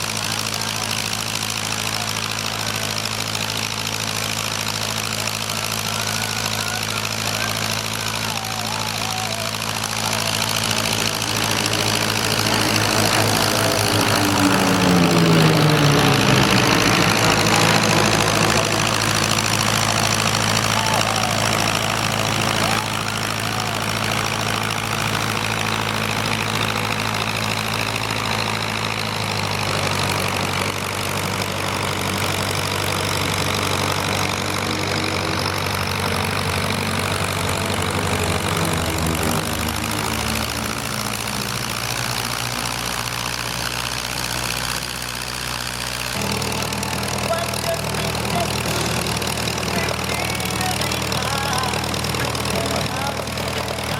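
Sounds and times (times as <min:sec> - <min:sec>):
piston aircraft engines running: 0:00.0 - 0:53.9.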